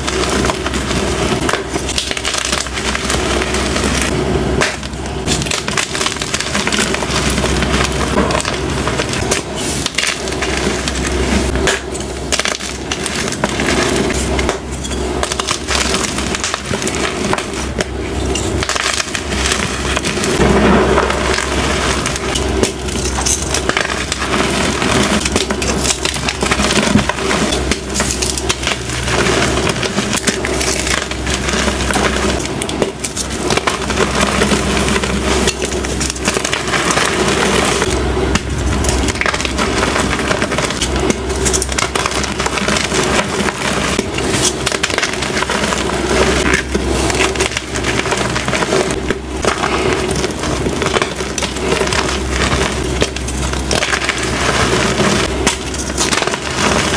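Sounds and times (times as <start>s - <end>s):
chalk crunching and crumbling: 0.0s - 56.9s.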